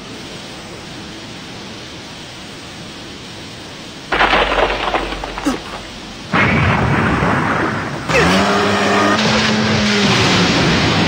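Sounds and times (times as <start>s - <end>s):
splashing water rush: 2.0s - 11.0s.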